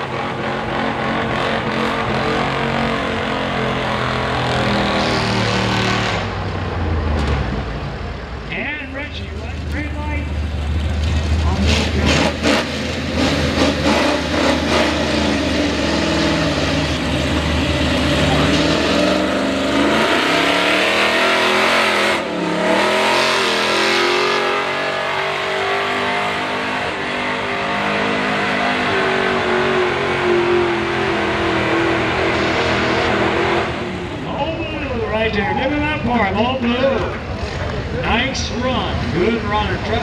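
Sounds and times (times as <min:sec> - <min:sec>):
pickup engine at full throttle: 0:00.0 - 0:08.1, 0:09.2 - 0:40.0.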